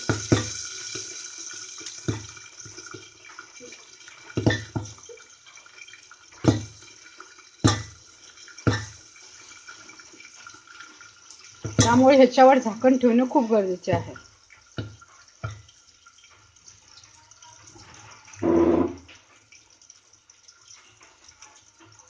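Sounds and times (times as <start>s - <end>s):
peas sizzling in hot oil: 0.0s - 22.0s.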